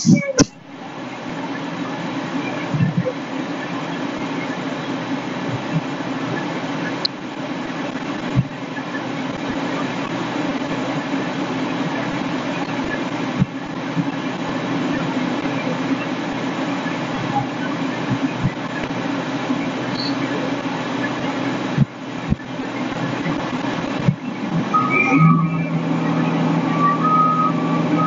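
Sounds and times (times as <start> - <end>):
diesel engines rumbling: 0.0 - 28.0.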